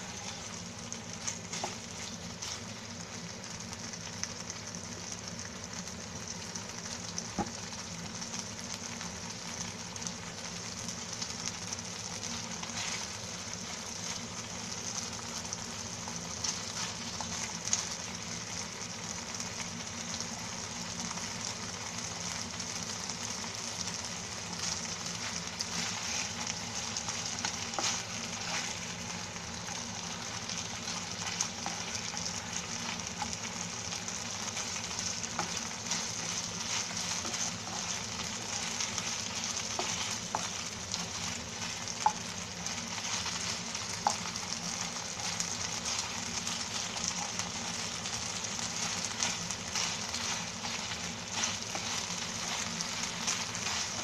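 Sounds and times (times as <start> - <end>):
meat sizzling in a frying pan: 0.0 - 54.0.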